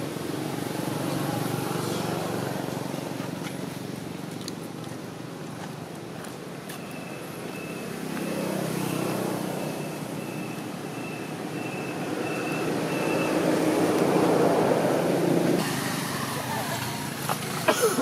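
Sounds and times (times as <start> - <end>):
vehicles passing on road: 0.0 - 18.0.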